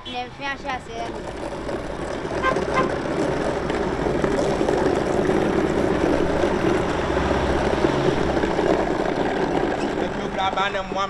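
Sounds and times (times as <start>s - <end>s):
engine running steadily: 0.9s - 11.0s.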